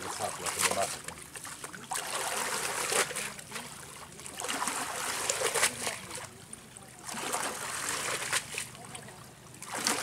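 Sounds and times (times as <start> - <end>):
cast net splashing in water: 0.0 - 6.3, 7.0 - 10.0
water dribbling off net: 0.0 - 6.4, 7.0 - 10.0.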